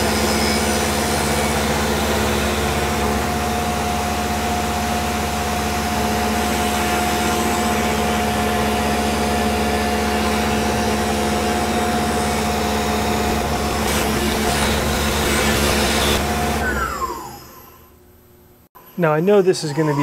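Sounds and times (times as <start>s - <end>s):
spindle whine: 0.0s - 20.0s.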